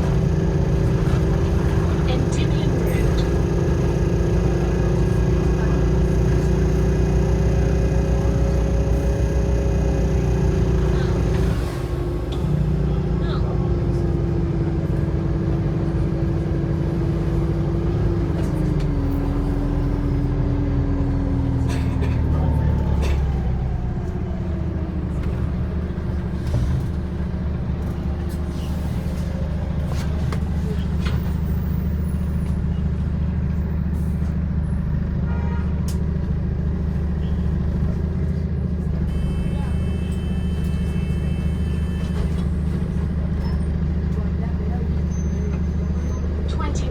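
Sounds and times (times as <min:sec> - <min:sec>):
bus engine droning: 0:00.0 - 0:46.9
road noise: 0:00.0 - 0:46.9.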